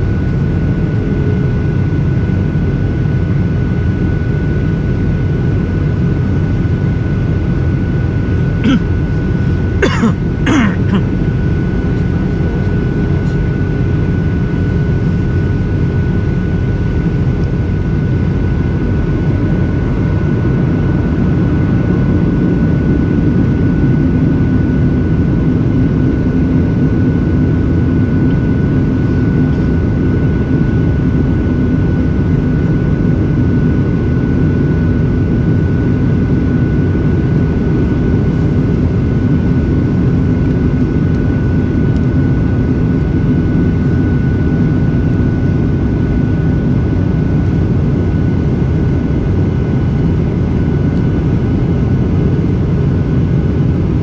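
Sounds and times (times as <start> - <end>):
engines and airflow rushing: 0.0 - 54.0.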